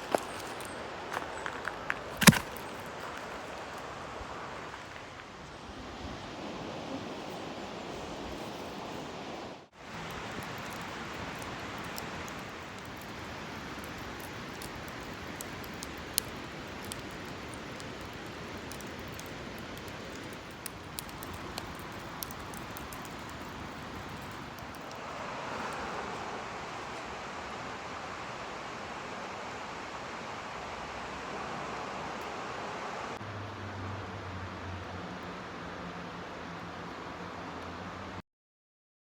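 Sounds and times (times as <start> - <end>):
mountain stream rushing: 0.0 - 38.2.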